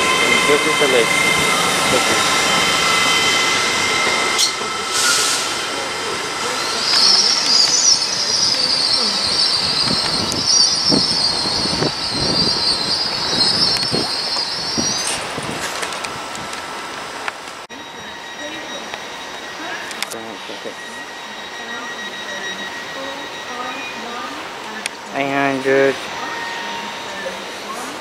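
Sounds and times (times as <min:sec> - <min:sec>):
train wheels and brakes squealing: 0:00.0 - 0:15.8, 0:17.7 - 0:28.0
train wheels rumbling on track: 0:00.0 - 0:28.0.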